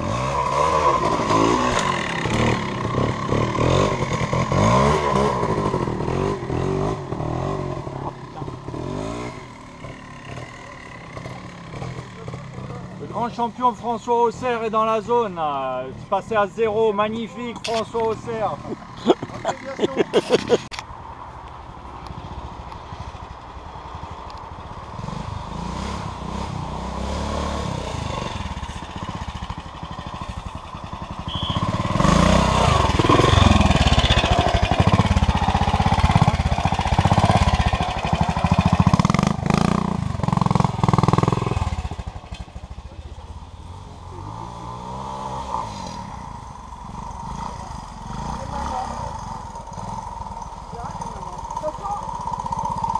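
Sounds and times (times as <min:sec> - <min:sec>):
motorcycle engine revving: 0:00.0 - 0:13.6, 0:17.6 - 0:20.8, 0:22.0 - 0:52.9.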